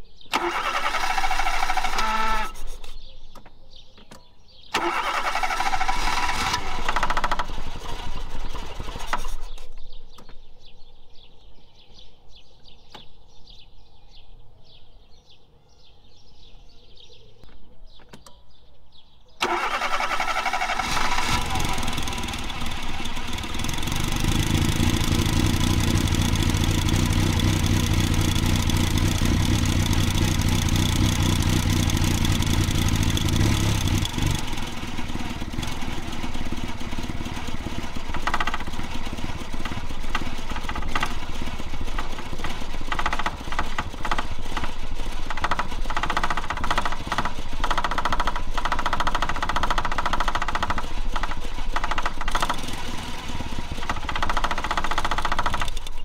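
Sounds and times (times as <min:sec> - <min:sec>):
car engine cranking: 0:00.3 - 0:10.4, 0:19.4 - 0:56.0.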